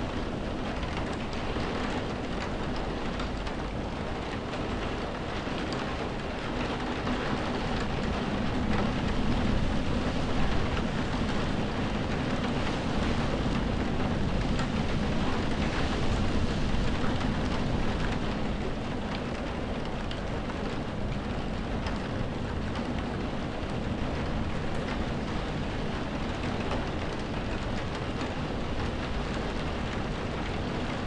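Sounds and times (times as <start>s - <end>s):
rain pattering on window glass: 0.0s - 31.0s.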